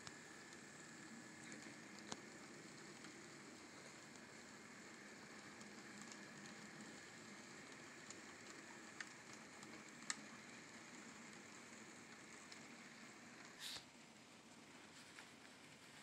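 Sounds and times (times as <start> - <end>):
model train rolling: 0.0 - 16.0.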